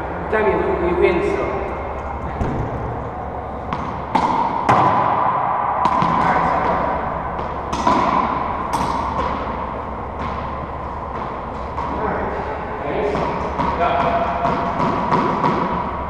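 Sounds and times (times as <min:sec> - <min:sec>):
racquetballs hitting walls: 0:01.2 - 0:16.0.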